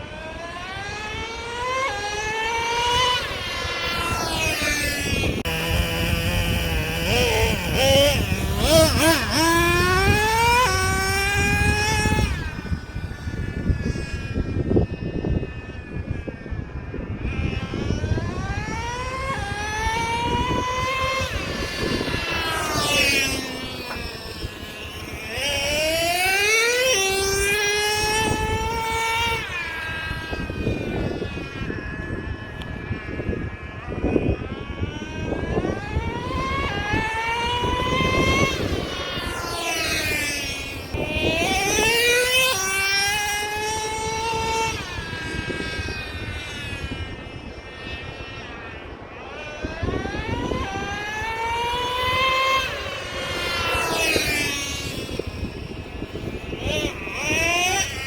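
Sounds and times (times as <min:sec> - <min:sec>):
model truck engine revving: 0:00.0 - 0:13.0, 0:17.3 - 0:47.8, 0:48.4 - 0:58.0
wind rumble on microphone: 0:00.0 - 0:58.0.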